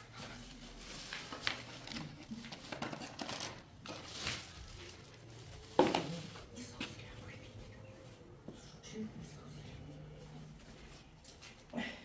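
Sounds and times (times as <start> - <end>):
rustling and handling noises: 0.0 - 11.8.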